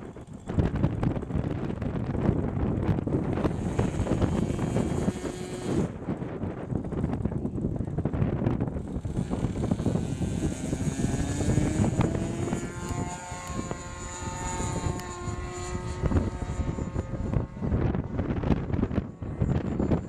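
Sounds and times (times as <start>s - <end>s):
model airplane engine running: 0.0s - 20.0s
wind noise on microphone: 0.0s - 20.0s.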